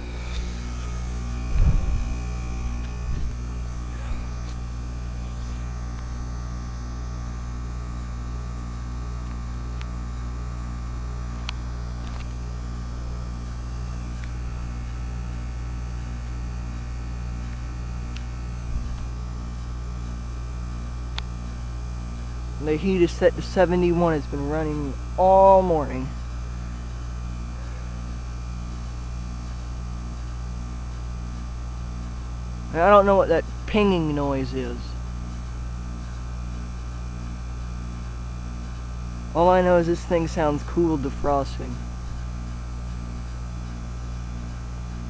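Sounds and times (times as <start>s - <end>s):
heat pump humming: 0.0s - 45.0s.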